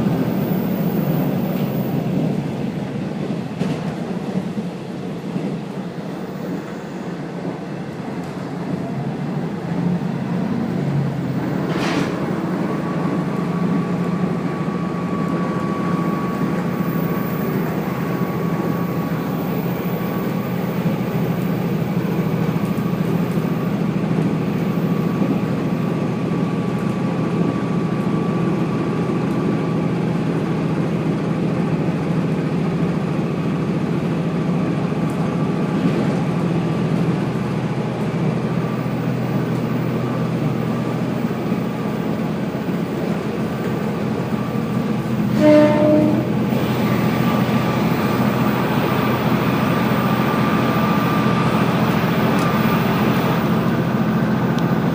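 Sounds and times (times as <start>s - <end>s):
railcar engine drone: 0.0s - 54.9s.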